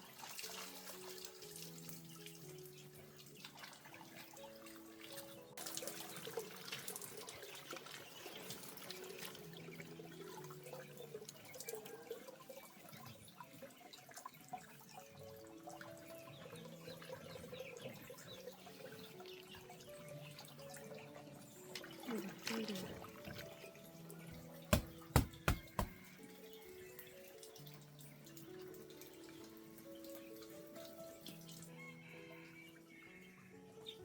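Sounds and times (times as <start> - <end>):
soft music with held notes: 0.0 - 34.0
water splashing and trickling: 0.0 - 34.0.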